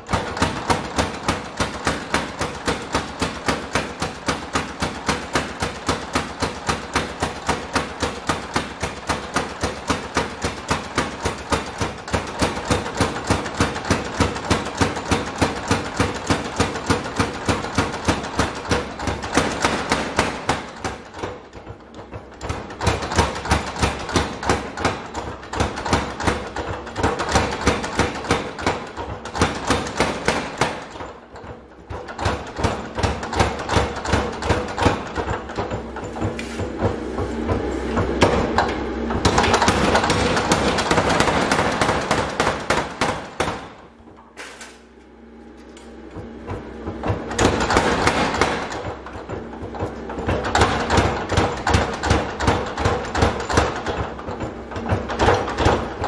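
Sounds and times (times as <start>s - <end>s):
power hammer striking hot steel: 0.0s - 45.0s, 46.5s - 56.0s.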